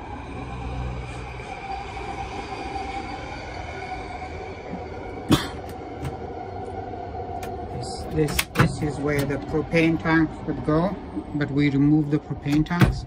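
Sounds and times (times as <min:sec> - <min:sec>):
low hum: 0:00.0 - 0:13.0
mechanical whine: 0:00.0 - 0:13.0.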